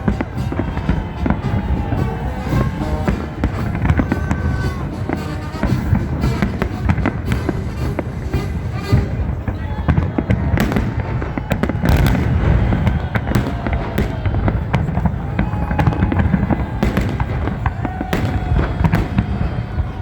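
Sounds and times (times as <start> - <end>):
sharp firework cracks: 0.0 - 20.0.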